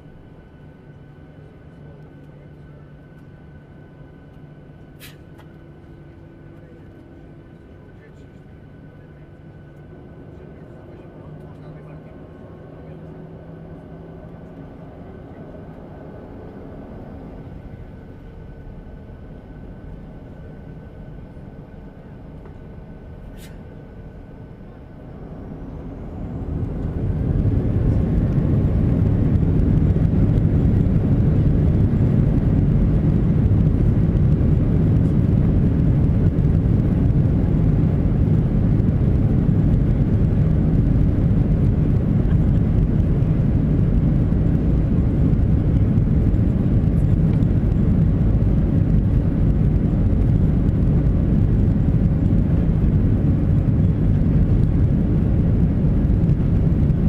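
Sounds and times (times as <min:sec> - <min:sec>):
faint rising whine: 0:00.0 - 0:57.0.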